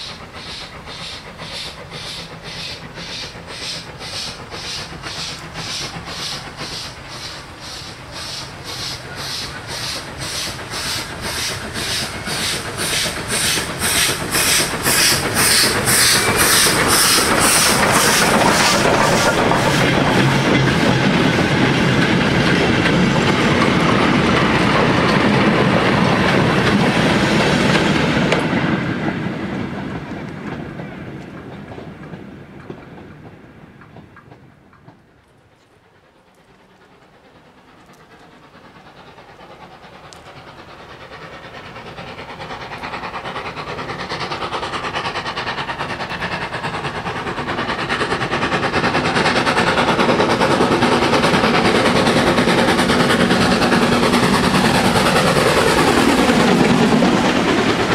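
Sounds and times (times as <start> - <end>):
steam locomotive exhaust beats: 0.0 - 57.9
train wheels rumbling and clattering: 0.0 - 57.9.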